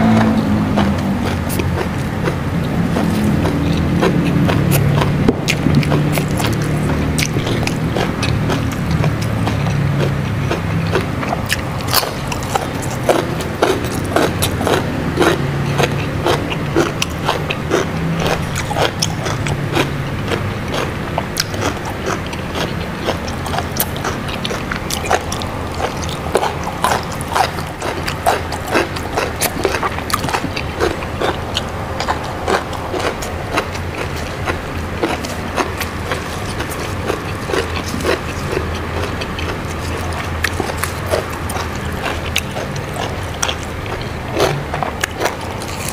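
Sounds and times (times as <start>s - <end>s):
person chewing crunchy vegetables: 0.0s - 45.9s
steady low hum: 0.0s - 45.9s
wet mouth clicks: 0.0s - 45.9s.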